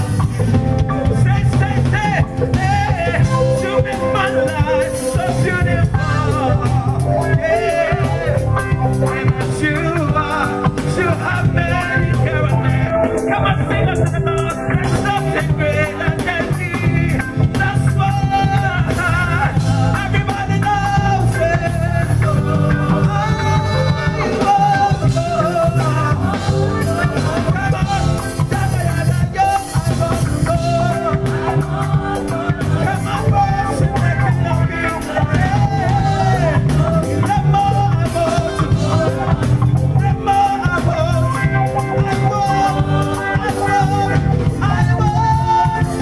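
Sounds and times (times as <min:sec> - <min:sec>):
voices singing: 0:00.0 - 0:46.0
worship band playing upbeat song: 0:00.0 - 0:46.0.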